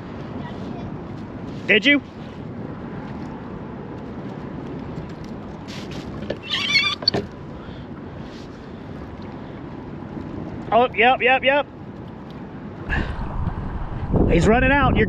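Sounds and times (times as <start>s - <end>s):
wind and water noise: 0.0s - 15.0s.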